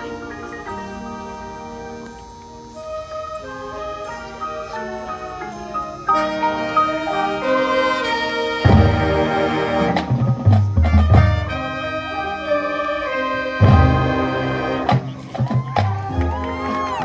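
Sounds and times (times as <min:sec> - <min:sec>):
brass chords: 0:02.7 - 0:16.9.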